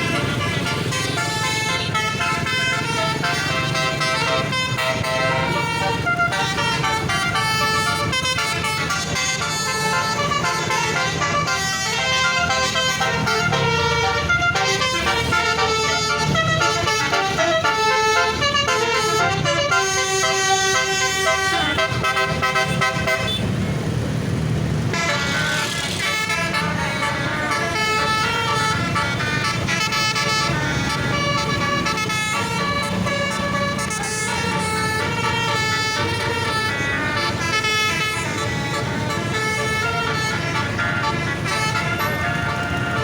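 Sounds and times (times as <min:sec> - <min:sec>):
musical air horn melody: 0:00.0 - 0:23.5, 0:24.9 - 0:43.0
bus engine running: 0:00.0 - 0:43.0.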